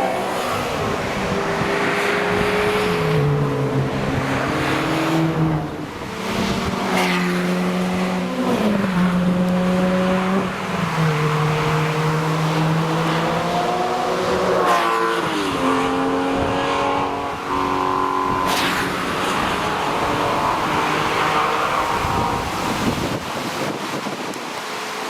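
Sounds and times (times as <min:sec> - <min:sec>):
race cars driving past: 0:00.0 - 0:23.3.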